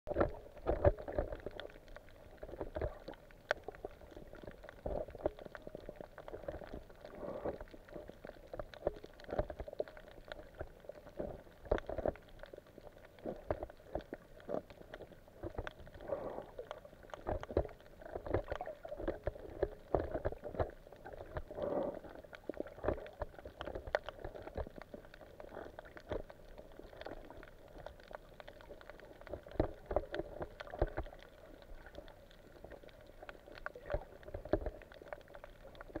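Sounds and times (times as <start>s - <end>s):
water sloshing underwater: 0.1s - 36.0s.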